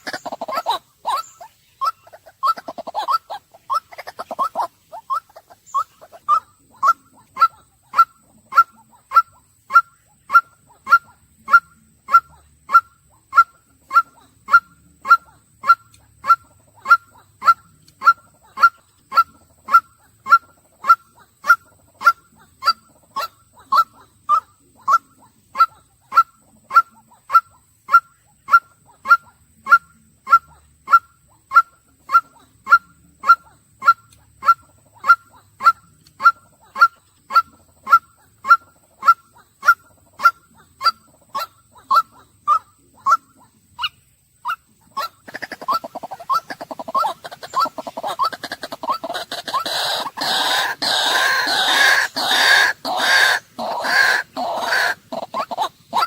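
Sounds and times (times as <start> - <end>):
waterhen calling: 0.0 - 56.0.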